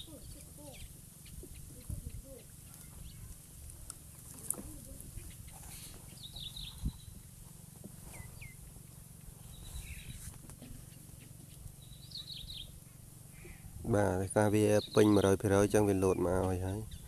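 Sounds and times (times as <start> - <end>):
birds chirping: 0.0 - 17.0
low steady hum: 0.0 - 17.0.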